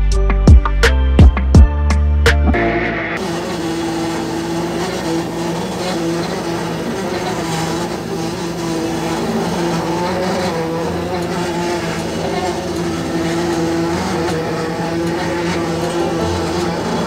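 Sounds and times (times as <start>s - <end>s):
boat engine and deck machinery drone: 2.3s - 17.0s.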